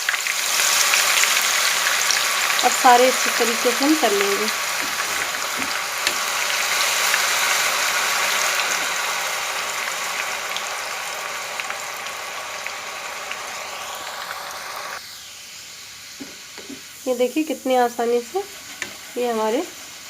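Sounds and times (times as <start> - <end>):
potato deep-frying in oil: 0.0 - 20.0.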